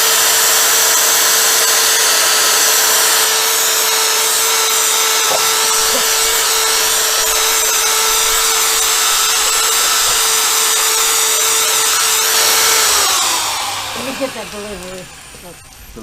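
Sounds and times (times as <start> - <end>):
power sander whining: 0.0 - 16.0.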